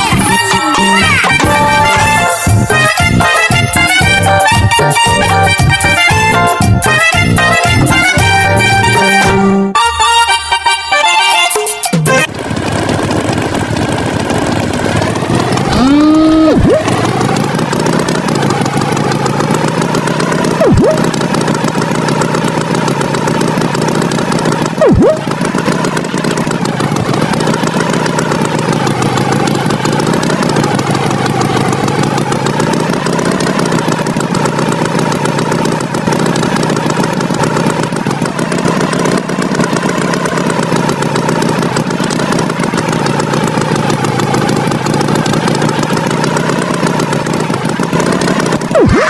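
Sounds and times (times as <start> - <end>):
cartoon tractor engine running: 0.0 - 49.0.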